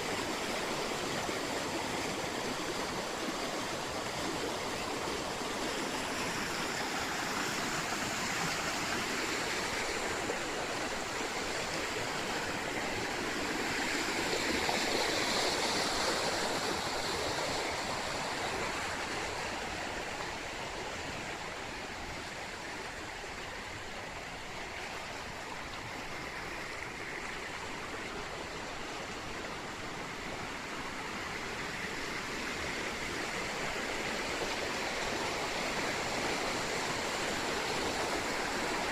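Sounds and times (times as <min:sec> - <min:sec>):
water rushing through rapids: 0:00.0 - 0:38.9.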